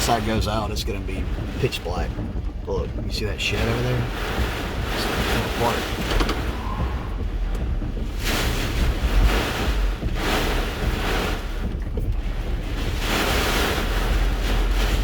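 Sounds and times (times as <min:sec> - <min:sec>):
wind gusts buffeting a vehicle: 0:00.0 - 0:15.0.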